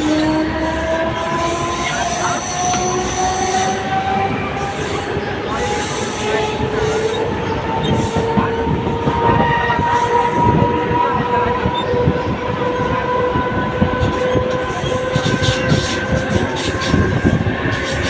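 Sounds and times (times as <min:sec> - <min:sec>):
steady train whine: 0:00.0 - 0:18.0
train rumbling on track: 0:00.0 - 0:18.0.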